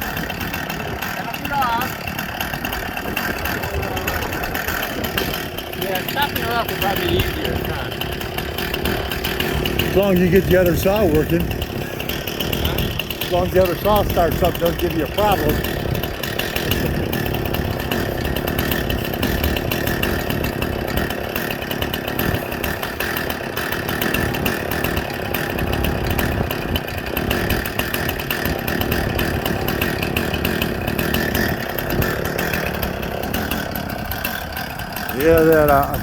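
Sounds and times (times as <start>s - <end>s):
chainsaw cutting logs: 0.0s - 36.0s.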